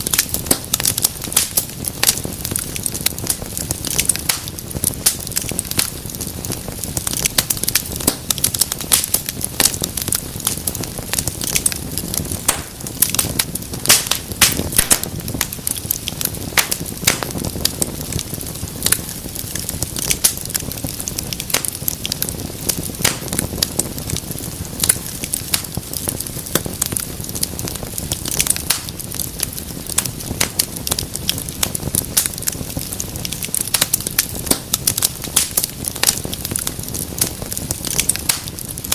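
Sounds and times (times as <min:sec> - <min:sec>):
fireplace fire crackling: 0:00.0 - 0:38.9
low rush of flames: 0:00.0 - 0:38.9
sharp pops and snaps: 0:00.0 - 0:38.9.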